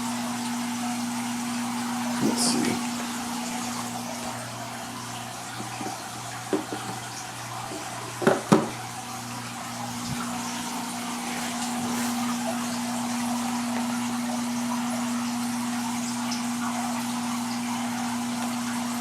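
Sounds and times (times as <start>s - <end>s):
aquarium water circulating: 0.0s - 19.0s
pump electrical hum: 0.0s - 19.0s.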